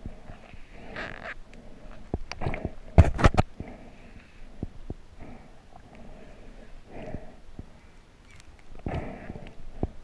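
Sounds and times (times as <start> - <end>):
low gurgling water: 0.0 - 10.0.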